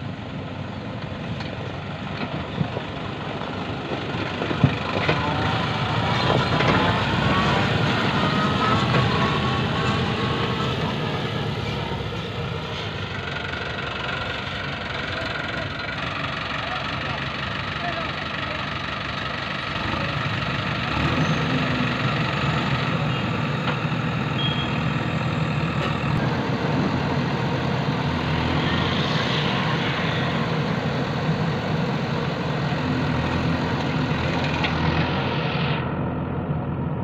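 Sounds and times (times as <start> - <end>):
heavy machine diesel engine: 0.0 - 37.0.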